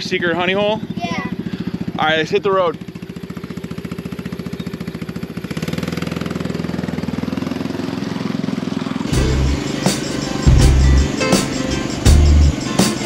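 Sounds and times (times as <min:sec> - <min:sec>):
small gas engine idling and revving: 0:00.0 - 0:13.0.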